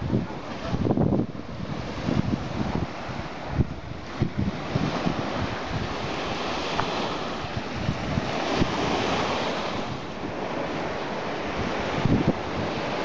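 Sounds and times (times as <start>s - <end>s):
sea surf washing: 0.0s - 13.0s
wind buffeting microphone: 0.0s - 13.0s.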